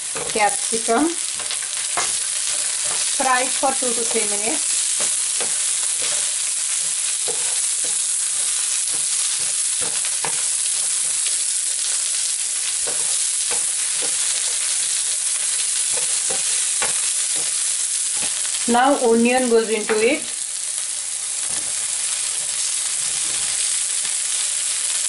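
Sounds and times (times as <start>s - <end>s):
wooden spoon scraping a pan: 0.0s - 18.6s, 21.4s - 23.8s
vegetables sizzling in oil: 0.0s - 25.0s.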